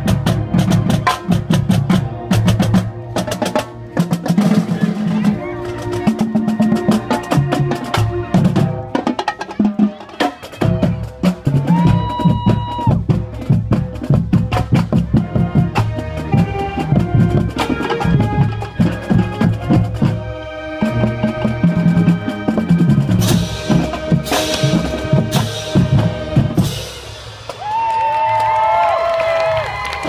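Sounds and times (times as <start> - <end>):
drumline beating fast pattern: 0.0 - 30.0
marching band playing: 0.0 - 30.0.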